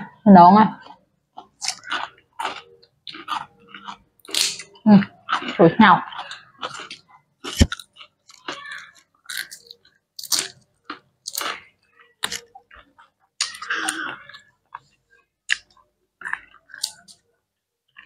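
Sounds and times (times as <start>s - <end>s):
people chewing crisply: 0.7s - 18.0s.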